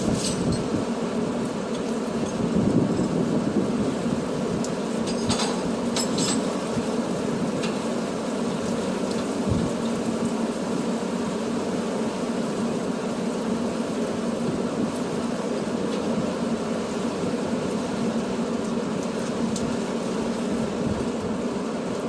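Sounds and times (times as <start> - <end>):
road noise: 0.0 - 22.0
truck engine hum: 0.0 - 22.0.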